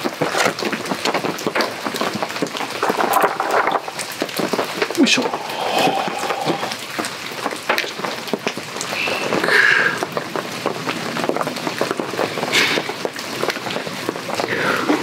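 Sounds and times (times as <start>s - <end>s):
heavy rain on a tarp: 0.0s - 15.0s.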